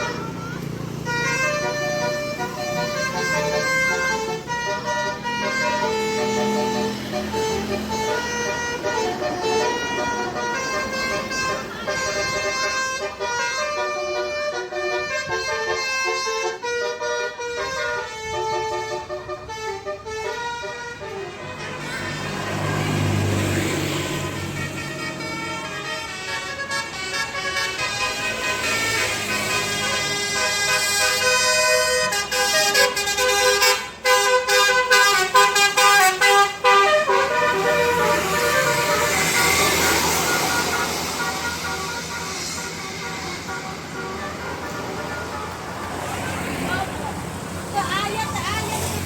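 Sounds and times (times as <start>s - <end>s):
multi-tone bus air horn tune: 0.0s - 47.0s.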